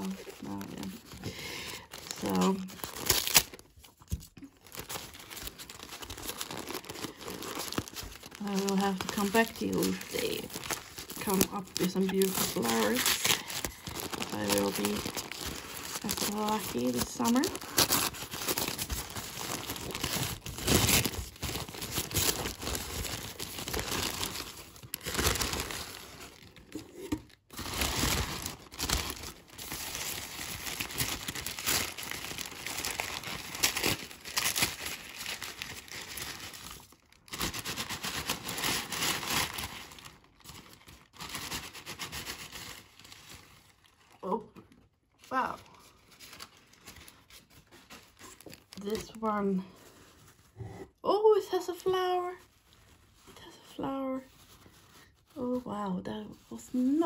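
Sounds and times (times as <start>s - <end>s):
paper wrapping crinkling: 0.0s - 50.6s, 51.5s - 57.0s.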